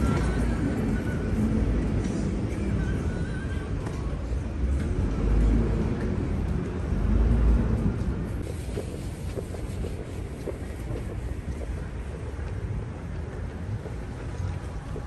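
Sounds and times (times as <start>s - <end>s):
low traffic rumbles: 0.0s - 15.0s
road traffic: 0.0s - 15.0s.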